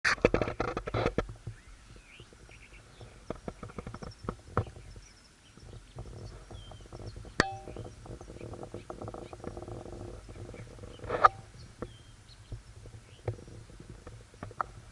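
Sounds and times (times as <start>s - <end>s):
small birds chirping: 1.4s - 14.8s.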